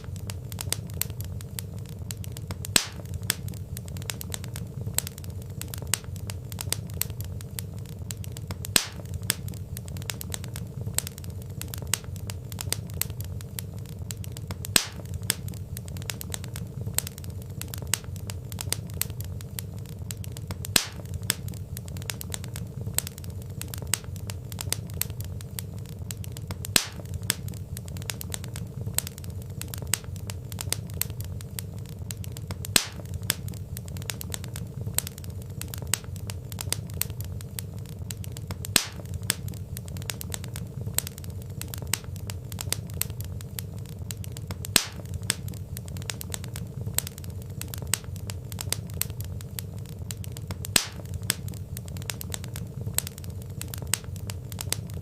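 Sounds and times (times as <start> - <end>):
fire popping: 0.0 - 55.0
low steady rumble: 0.0 - 55.0
wood fire crackling: 0.0 - 55.0.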